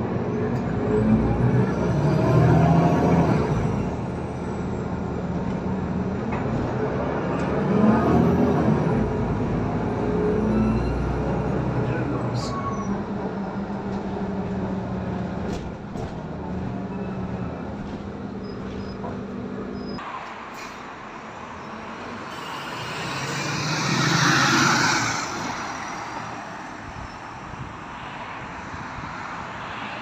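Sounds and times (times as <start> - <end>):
bus pulling away: 0.0 - 27.9
bus diesel engine humming: 2.3 - 28.6.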